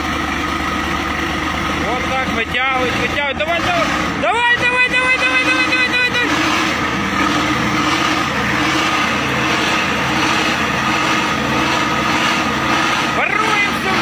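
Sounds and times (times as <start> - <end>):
diesel engine running loud: 0.0 - 14.0.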